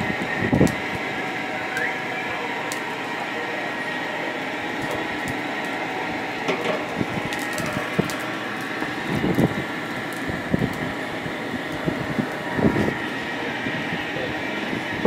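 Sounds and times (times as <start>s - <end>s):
fire crackling and popping: 0.0s - 15.0s
forge fire rushing: 0.0s - 15.0s.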